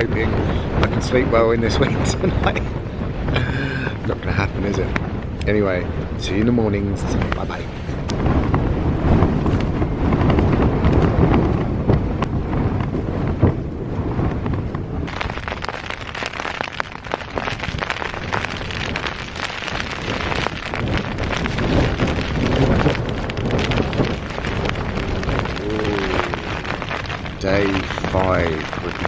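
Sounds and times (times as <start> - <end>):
heavy rain pattering on tent: 0.0 - 29.0
wind gusting on tent: 0.0 - 29.0.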